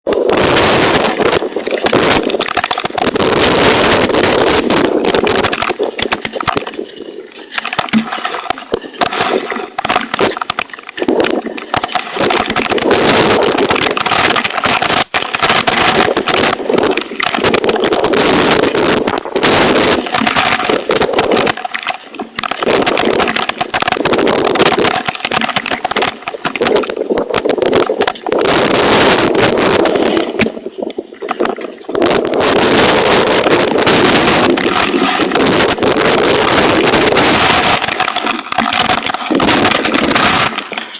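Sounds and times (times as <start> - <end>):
hailstones pelting a cover: 0.1 - 6.7, 7.6 - 21.6, 22.4 - 30.5, 31.9 - 40.9.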